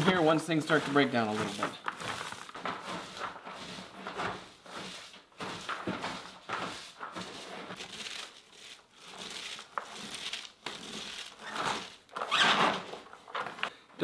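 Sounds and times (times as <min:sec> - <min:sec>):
hands squishing cabbage: 0:00.0 - 0:12.4.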